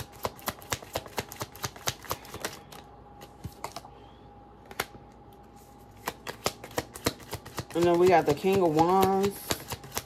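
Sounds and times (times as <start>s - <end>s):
cards being shuffled: 0.0s - 3.9s, 4.6s - 10.0s.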